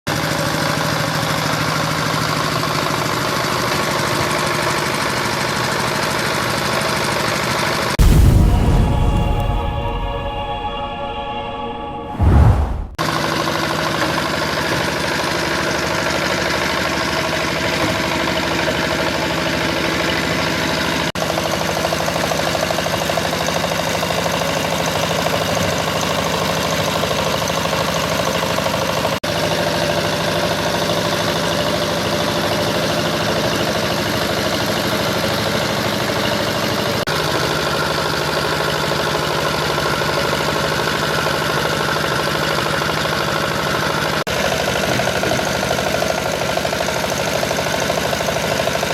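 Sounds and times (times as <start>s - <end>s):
diesel tiller engine running: 0.1s - 9.2s, 14.1s - 48.9s.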